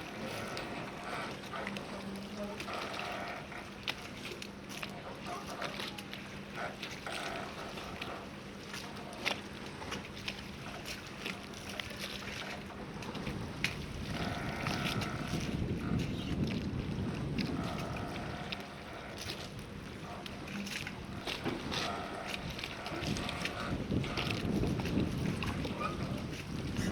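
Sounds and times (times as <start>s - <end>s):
rushing water and boat noise: 0.0s - 26.9s.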